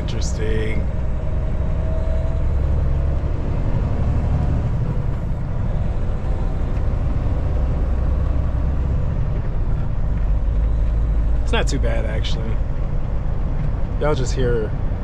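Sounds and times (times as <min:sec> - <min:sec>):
road noise: 0:00.0 - 0:15.0
truck engine rumble: 0:00.0 - 0:15.0.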